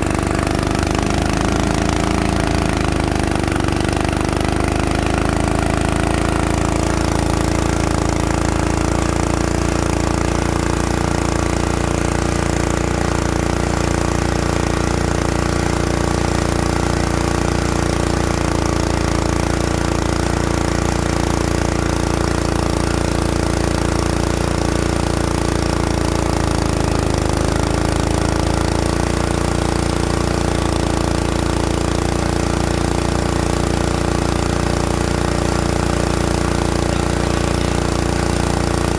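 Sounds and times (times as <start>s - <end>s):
coring drill engine running: 0.0s - 38.9s.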